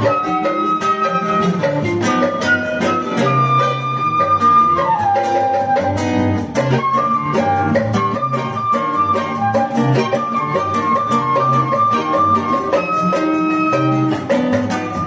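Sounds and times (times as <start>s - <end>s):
percussion beat: 0.0s - 15.0s
plucked guitar: 0.0s - 15.0s
sliding melody line: 0.0s - 15.0s.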